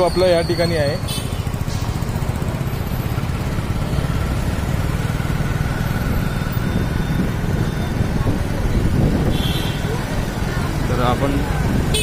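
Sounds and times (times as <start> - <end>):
motorcycle engine rumble: 0.0 - 12.0
nearby motorcycles and cars: 0.0 - 12.0.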